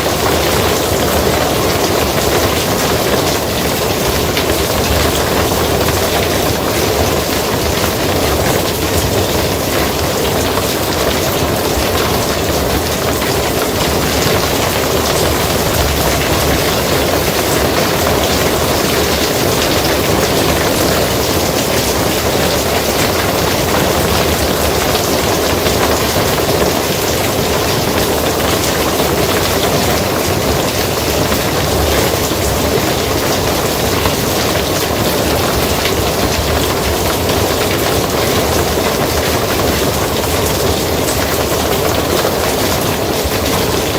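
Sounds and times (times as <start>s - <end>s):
rain on a barn roof: 0.0s - 43.9s.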